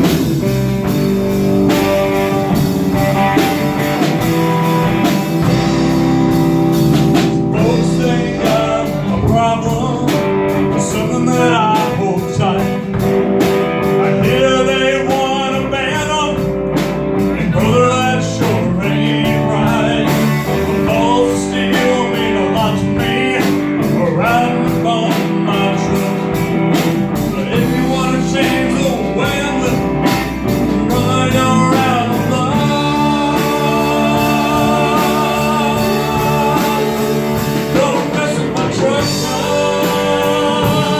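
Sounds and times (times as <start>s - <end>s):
electric guitar lead: 0.0s - 40.9s
steady drum beat: 0.0s - 40.9s.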